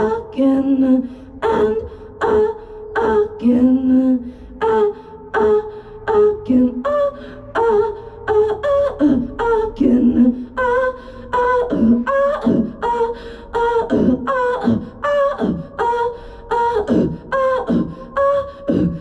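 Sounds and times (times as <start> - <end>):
woman singing wordlessly: 0.0 - 19.0.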